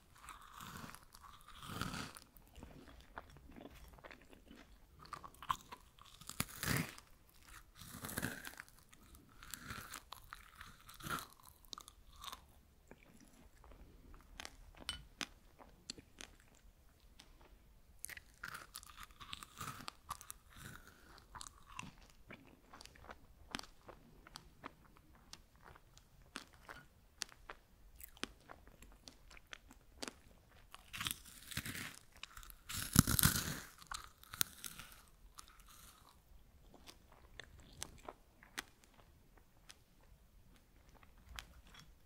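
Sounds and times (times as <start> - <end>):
crunchy chewing: 0.0 - 16.6, 17.2 - 42.0.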